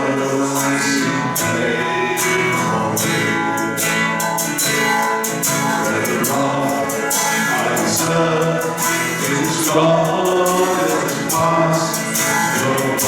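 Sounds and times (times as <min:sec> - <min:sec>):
person singing worship song: 0:00.0 - 0:13.0
strummed acoustic guitar: 0:00.0 - 0:13.0.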